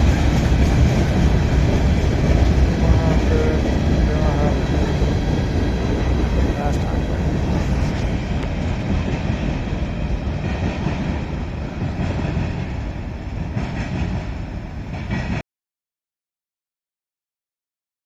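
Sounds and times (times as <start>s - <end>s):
train passing on rails: 0.0s - 15.4s.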